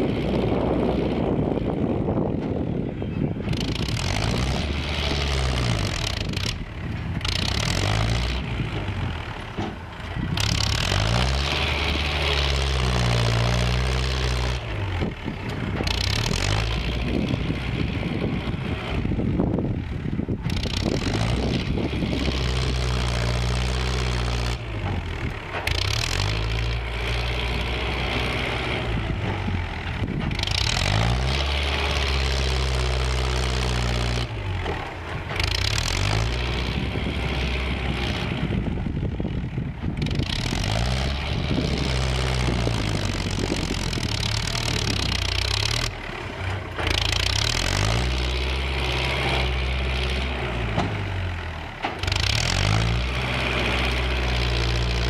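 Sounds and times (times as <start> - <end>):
tractor diesel engine working hard: 0.0 - 55.0.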